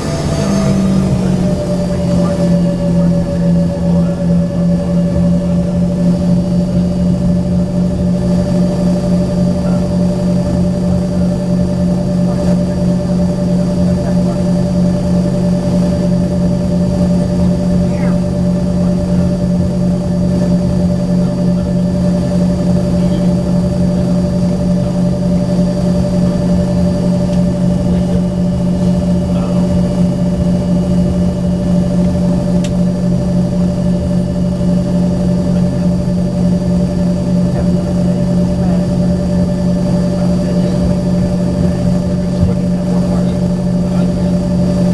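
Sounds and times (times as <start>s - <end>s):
fixed whining tones: 0.0s - 44.9s
jet cabin low hum: 0.0s - 44.9s.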